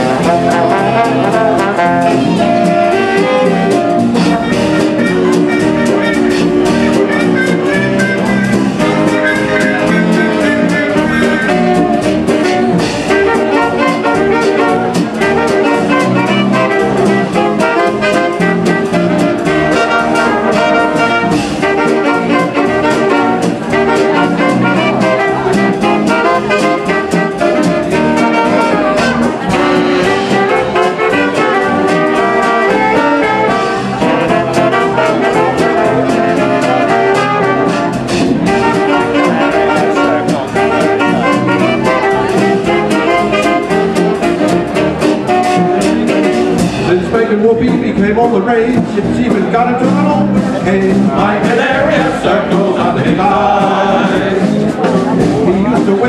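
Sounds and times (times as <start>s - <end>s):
dance orchestra playing: 0.0s - 56.0s.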